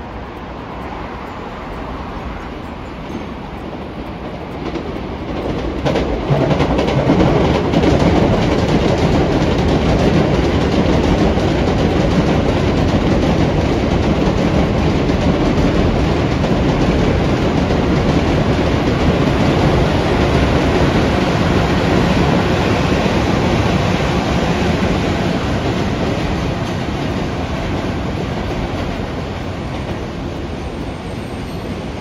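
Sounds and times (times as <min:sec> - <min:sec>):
freight train passing: 0:00.0 - 0:32.0
wagons clattering over rails: 0:00.0 - 0:32.0.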